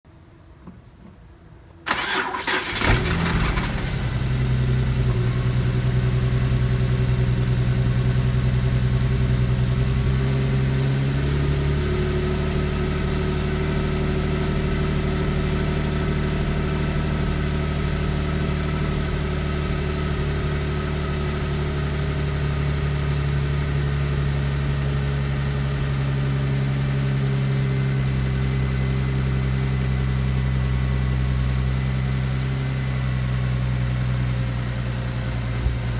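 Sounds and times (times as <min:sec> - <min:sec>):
car engine cranking and idling: 0:01.9 - 0:35.9.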